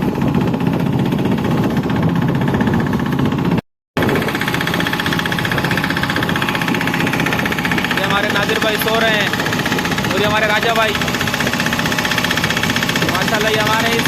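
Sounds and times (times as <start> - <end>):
engine running with knocking beat: 0.0 - 14.0.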